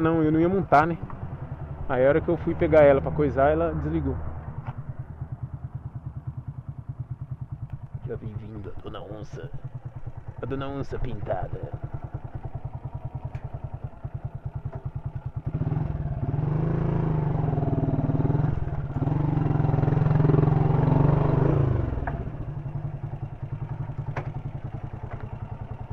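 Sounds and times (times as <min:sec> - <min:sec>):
motorcycle engine idling and revving: 0:00.0 - 0:25.9.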